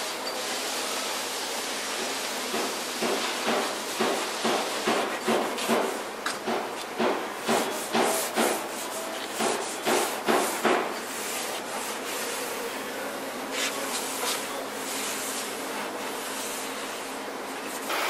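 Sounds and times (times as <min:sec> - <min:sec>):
abrasive pad scuffing painted steel: 0:02.5 - 0:12.5, 0:13.5 - 0:18.0.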